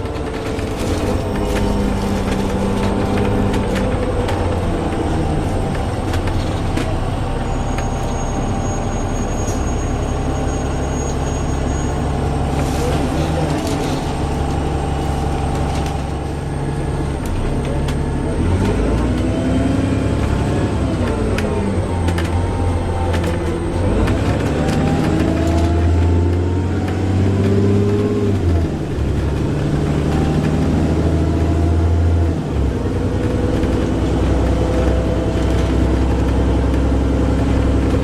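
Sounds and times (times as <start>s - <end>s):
bus engine droning: 0.0s - 38.0s.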